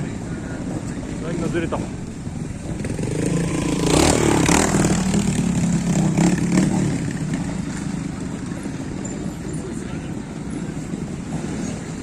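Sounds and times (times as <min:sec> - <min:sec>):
motorcycle engine revving: 0:00.6 - 0:12.0.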